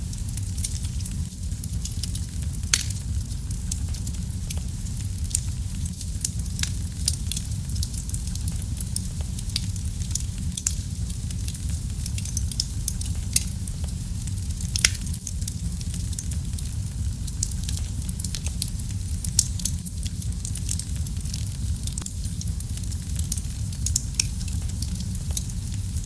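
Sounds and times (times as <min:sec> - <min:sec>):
fire pops and crackles: 0:00.0 - 0:26.0
low rumble of flames: 0:00.0 - 0:26.0.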